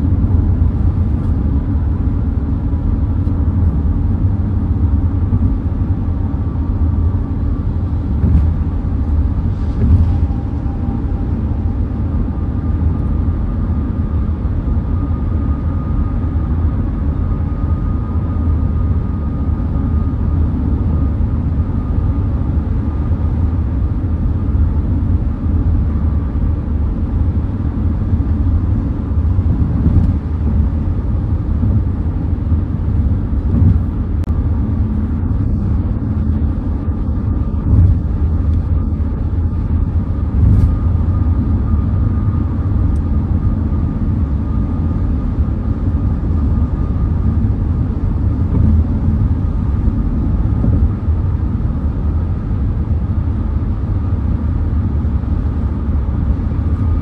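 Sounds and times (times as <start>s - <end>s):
car tyre and engine rumble: 0.0s - 57.0s.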